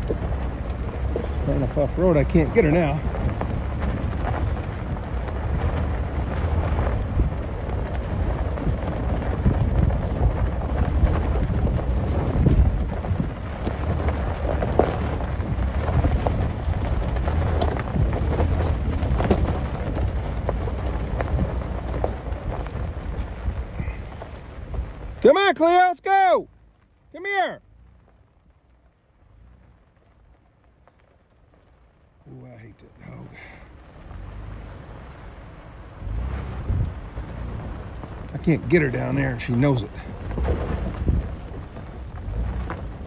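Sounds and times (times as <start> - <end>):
footsteps crunching on rocky ground: 0.0 - 25.5, 33.8 - 43.0
wind rumbling on microphone: 0.0 - 43.0.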